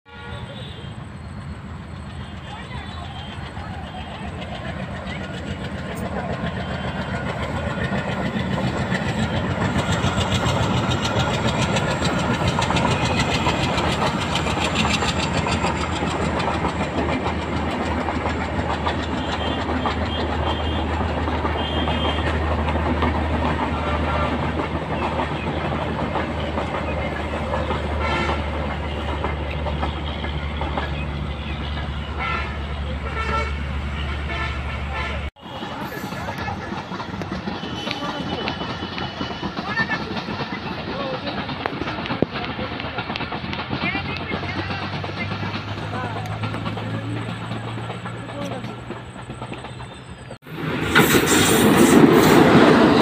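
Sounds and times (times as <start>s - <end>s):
passenger train rumbling past: 0.1s - 53.0s
wheels clacking on rail joints: 1.8s - 53.0s.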